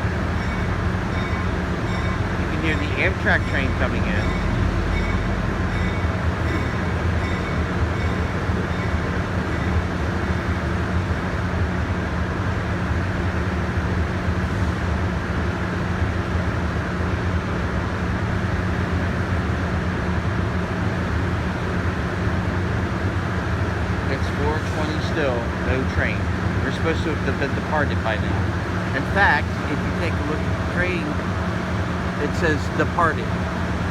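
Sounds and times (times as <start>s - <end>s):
train rumbling into station: 0.0s - 33.9s.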